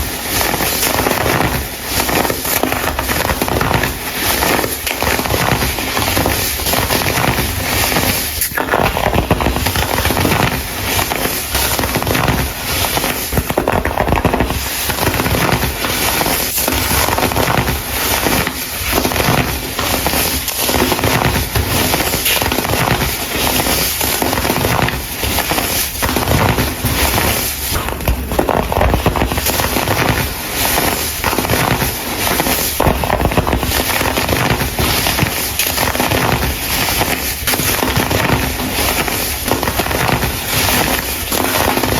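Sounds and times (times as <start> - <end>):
powder clumps crunching: 0.0 - 41.9.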